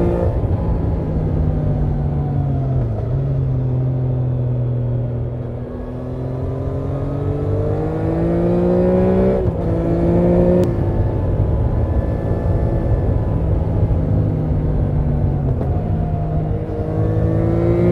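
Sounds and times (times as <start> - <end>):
motorcycle engine accelerating: 0.0 - 17.9.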